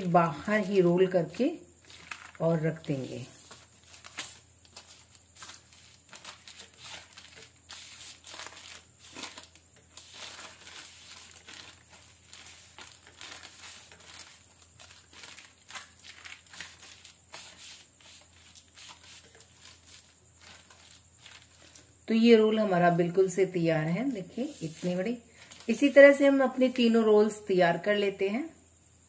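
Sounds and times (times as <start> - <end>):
plastic sheet crinkling: 0.0 - 22.0, 24.0 - 26.2.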